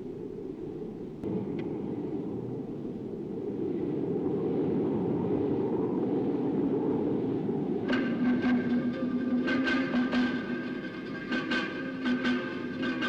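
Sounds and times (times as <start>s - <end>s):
wind over grassland: 0.0s - 13.0s.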